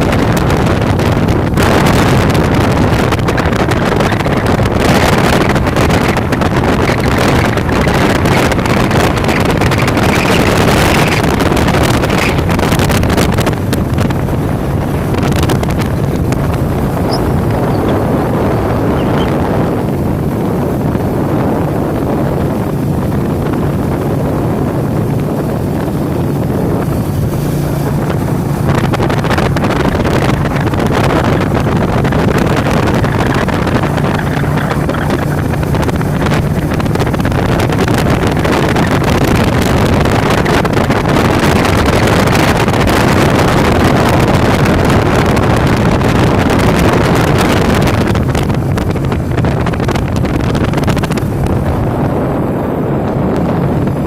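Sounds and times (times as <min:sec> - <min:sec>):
low vehicle rumble: 0:00.0 - 0:54.0
wind noise on microphone: 0:00.0 - 0:54.0.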